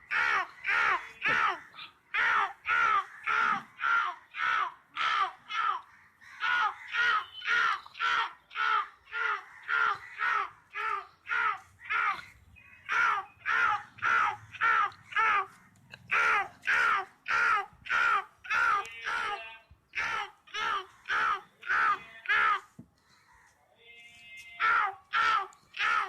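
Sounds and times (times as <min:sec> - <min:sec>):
person imitating crow caws: 0:00.0 - 0:23.5, 0:24.5 - 0:26.0.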